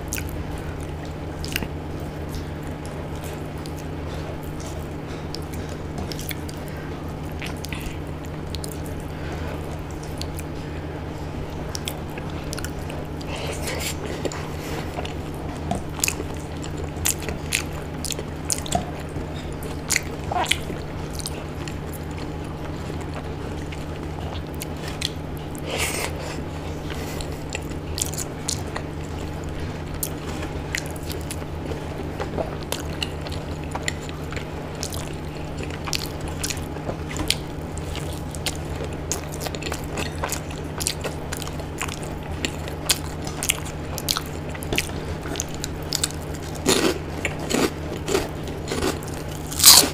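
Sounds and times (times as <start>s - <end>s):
person chewing and mouth smacks: 0.0s - 49.9s
steady low hum: 0.0s - 49.9s.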